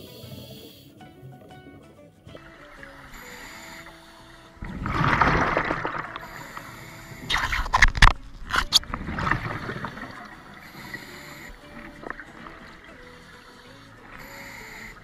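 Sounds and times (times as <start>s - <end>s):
underwater bubbling rush: 2.4s - 15.0s.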